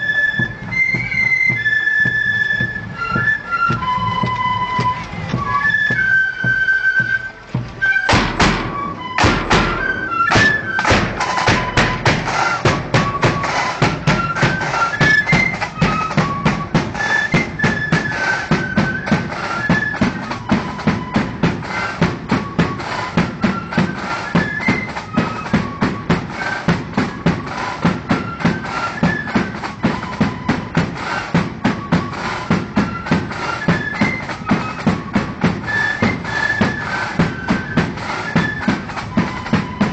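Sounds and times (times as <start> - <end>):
flutes playing a tune: 0.0 - 39.9
snare and bass drums: 0.3 - 39.9.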